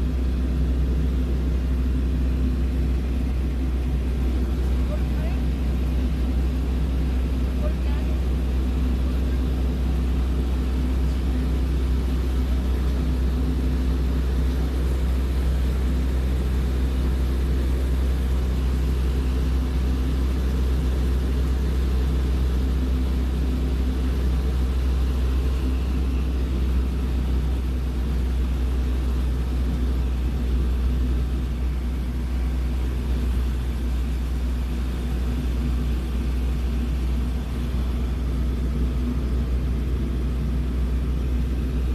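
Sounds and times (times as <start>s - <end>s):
propeller airplane engine droning: 0.0s - 41.9s.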